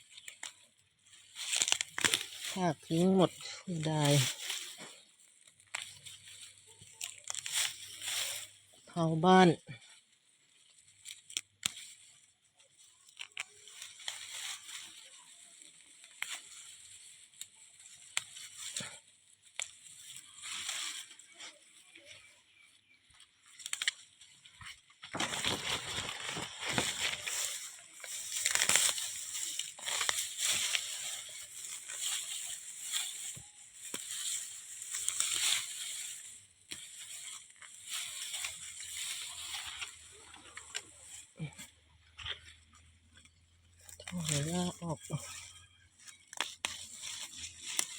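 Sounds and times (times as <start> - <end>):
wet grass rustling and crunching: 0.0 - 47.9.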